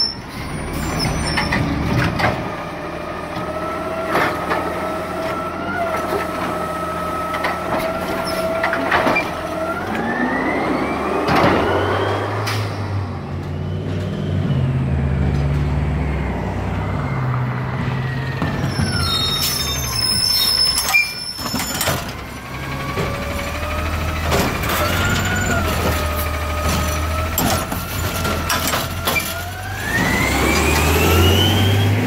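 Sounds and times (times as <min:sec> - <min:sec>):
garbage truck engine whining: 0:00.0 - 0:32.0.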